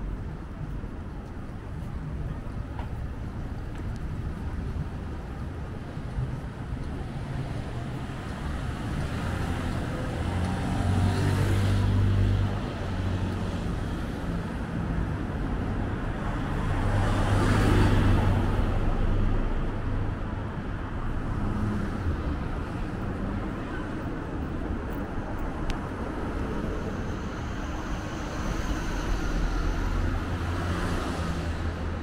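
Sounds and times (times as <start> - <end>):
steady hum of cars: 0.0 - 32.0
vehicles driving past: 0.0 - 32.0.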